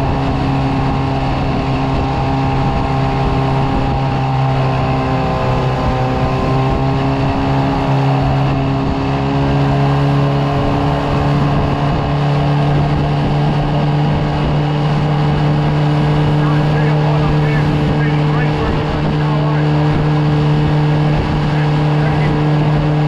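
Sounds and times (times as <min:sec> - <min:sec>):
outboard motor droning: 0:00.0 - 0:23.0
water rushing along hull: 0:00.0 - 0:23.0.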